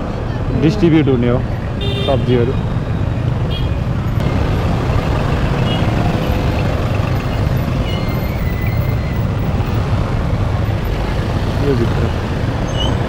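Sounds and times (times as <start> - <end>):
surrounding traffic noise: 0.0 - 13.0
motorcycle engine rumbling: 1.4 - 13.0.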